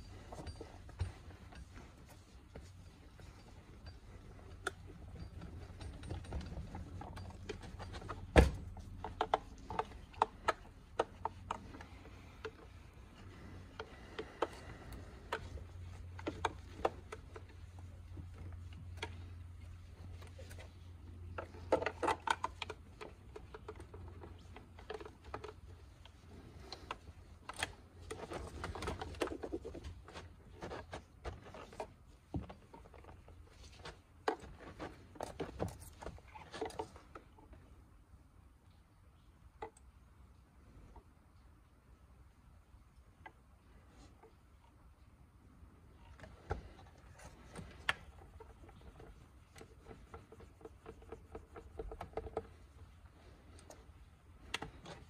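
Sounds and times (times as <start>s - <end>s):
light clicks and knocks: 0.0s - 37.9s, 42.8s - 55.0s
low steady hum: 0.0s - 55.0s.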